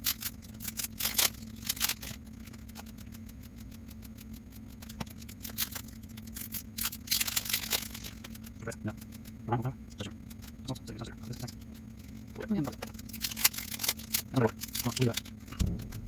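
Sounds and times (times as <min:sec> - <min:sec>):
crinkling wax paper wrappers: 0:00.0 - 0:16.0
steady low hum: 0:00.0 - 0:16.0.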